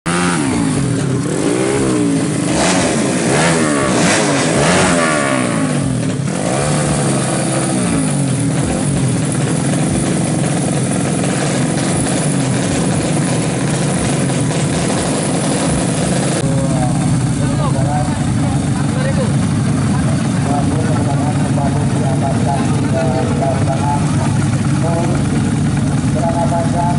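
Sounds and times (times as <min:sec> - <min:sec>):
motorcycle engine revving and idling: 0:00.1 - 0:26.9.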